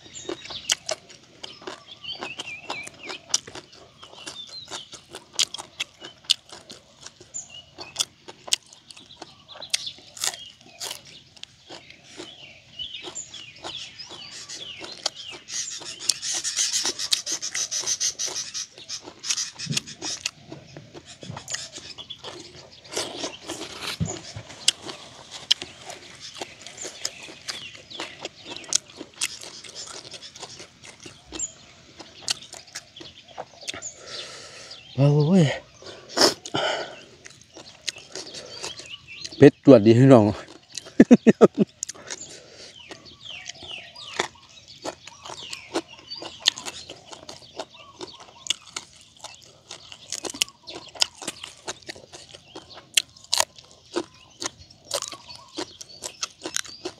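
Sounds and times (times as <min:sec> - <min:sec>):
man chewing with crunching: 0:00.0 - 0:56.9
small birds chirping: 0:00.0 - 0:56.9.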